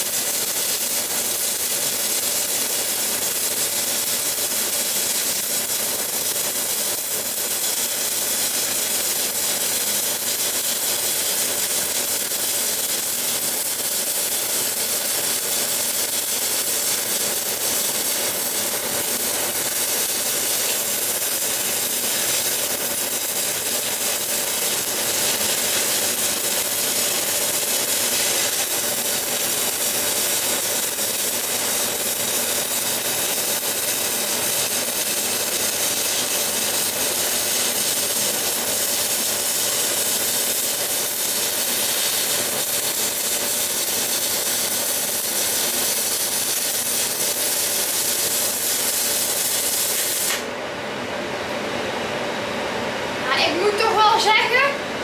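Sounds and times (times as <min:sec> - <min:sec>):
welding arc hissing: 0:00.0 - 0:50.6.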